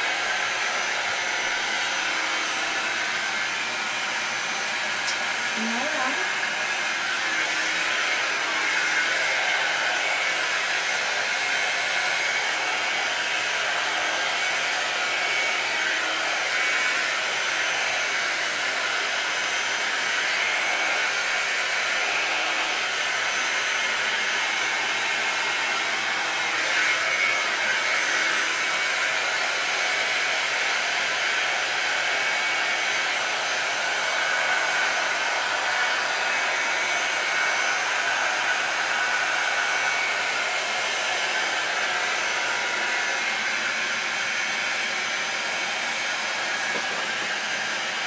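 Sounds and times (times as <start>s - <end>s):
blow dryer blowing air: 0.0s - 48.0s.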